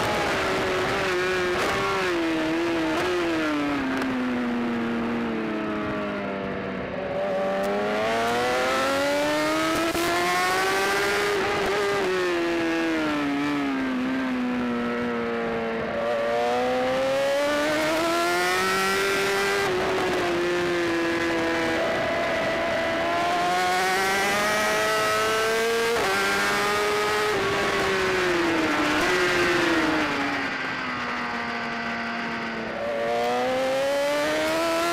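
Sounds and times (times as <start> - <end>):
racing motorcycle engine revving: 0.0 - 34.9.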